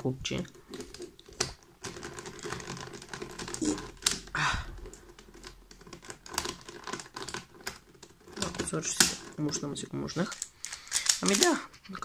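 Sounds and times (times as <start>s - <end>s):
cube rattle: 0.3s - 12.0s
plastic puzzle cube clicking: 0.4s - 11.8s.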